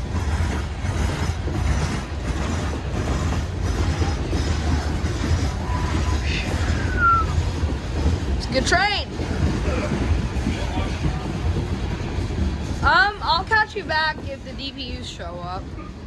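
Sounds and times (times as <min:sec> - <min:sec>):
train wheel squeal: 0:00.0 - 0:16.0
train wheels rumbling on rail: 0:00.0 - 0:16.0.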